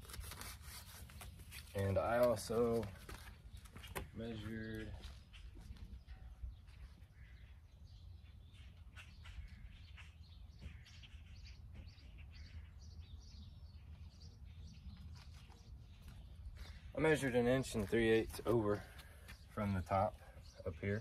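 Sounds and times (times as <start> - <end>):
faint birds chirping: 0.3 - 21.0.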